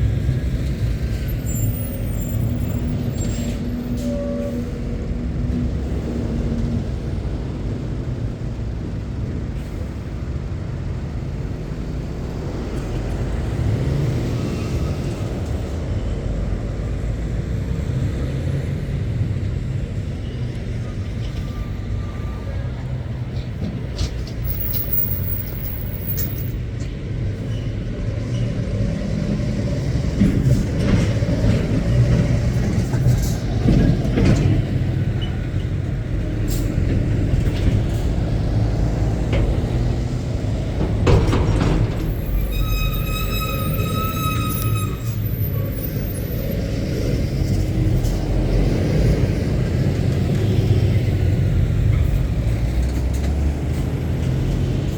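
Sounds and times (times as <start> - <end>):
lorry diesel engines rumbling: 0.0 - 54.9.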